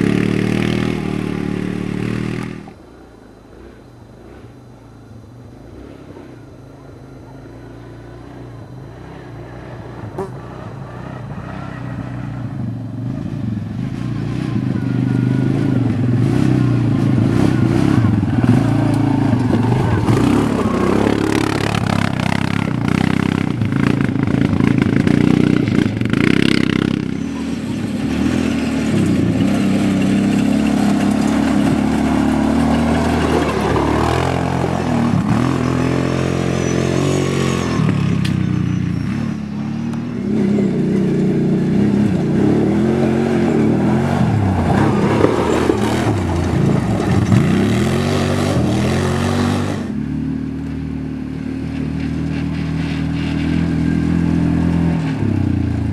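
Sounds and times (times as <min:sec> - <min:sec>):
quad bike engines revving: 0:00.0 - 0:55.9.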